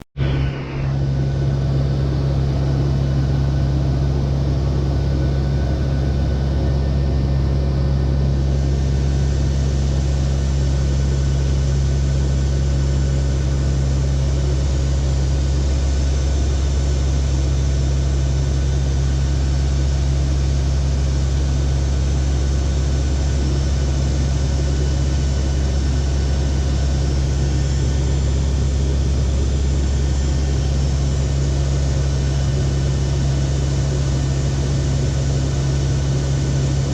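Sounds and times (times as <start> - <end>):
turboprop engines droning: 0.0 - 36.9.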